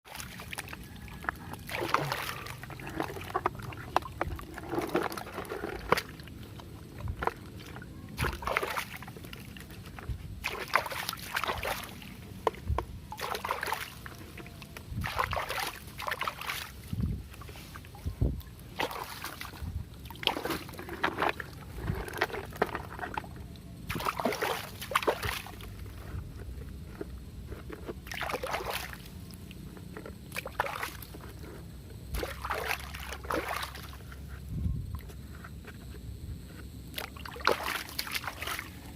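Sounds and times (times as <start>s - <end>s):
water sloshing and splashing: 0.0s - 35.9s, 36.9s - 38.9s.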